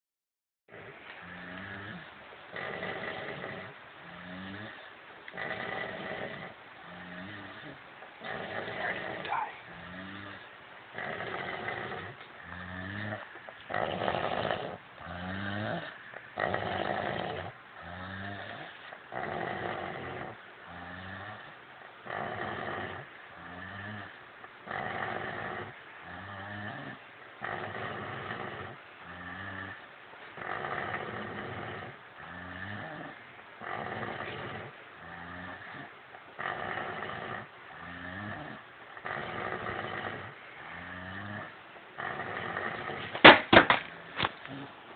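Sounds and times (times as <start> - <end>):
men snoring heavily: 0.7 - 21.5, 22.1 - 29.8, 30.4 - 43.1.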